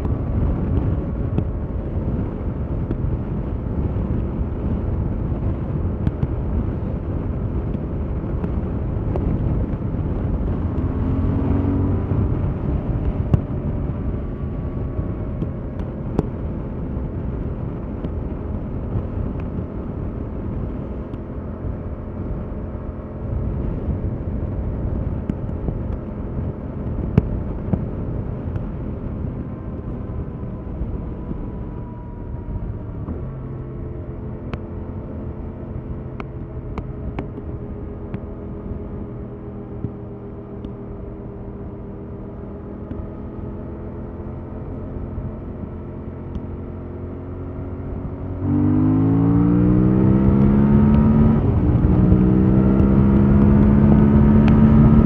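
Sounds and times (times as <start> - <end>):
motorcycle engine rumble: 0.0 - 55.0.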